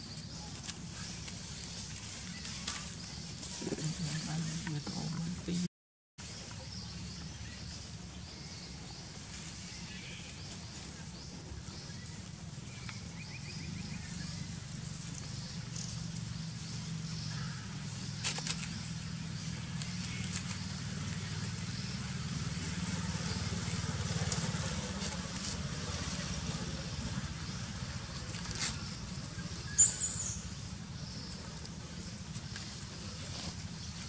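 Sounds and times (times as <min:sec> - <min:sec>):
rustling on dry leaf litter: 0:00.0 - 0:05.1, 0:06.2 - 0:34.0.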